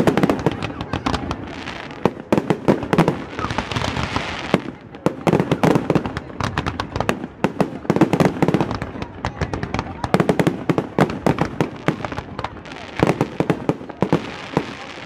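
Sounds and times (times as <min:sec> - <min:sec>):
fireworks hiss: 0:00.0 - 0:09.0, 0:10.2 - 0:15.0
fireworks popping and crackling: 0:00.0 - 0:15.0.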